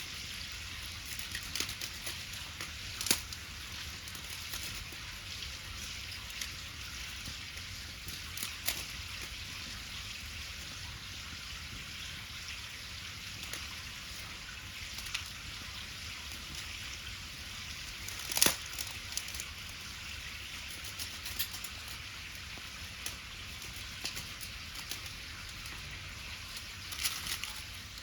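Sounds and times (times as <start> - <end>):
wood bonfire crackling: 0.0 - 28.0.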